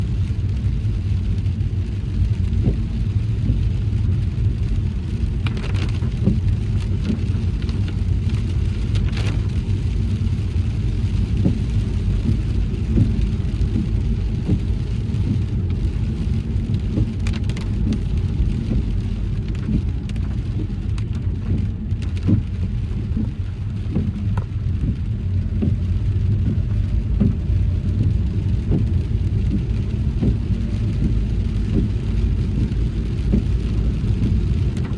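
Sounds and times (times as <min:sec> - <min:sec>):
raindrops ticking on car: 0:00.0 - 0:34.9
tyres and engine rumble: 0:00.0 - 0:34.9.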